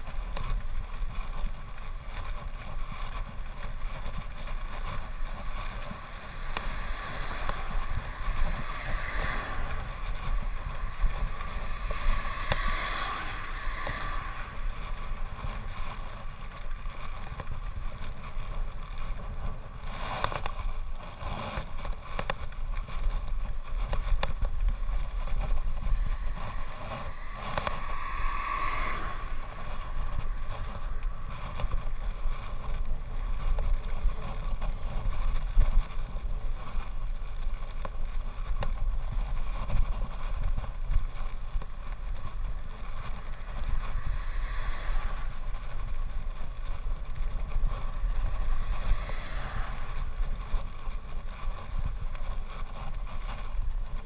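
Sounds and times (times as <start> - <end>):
low rumble: 0.0 - 54.0
wind buffeting microphone: 0.0 - 54.0.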